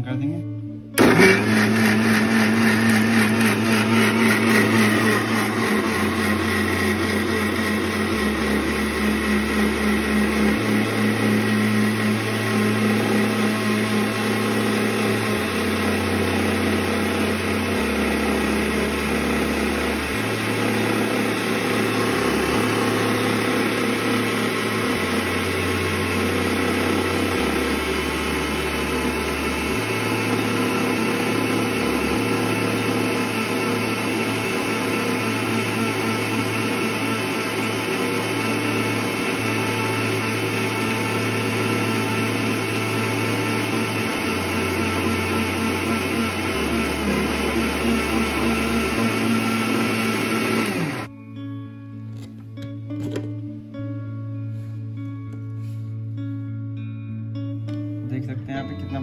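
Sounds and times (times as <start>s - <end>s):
mixer grinder motor grinding: 1.0s - 51.1s.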